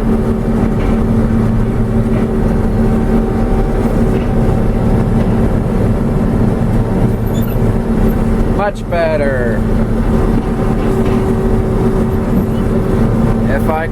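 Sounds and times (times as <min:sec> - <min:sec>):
combine harvester engine droning: 0:00.0 - 0:13.9.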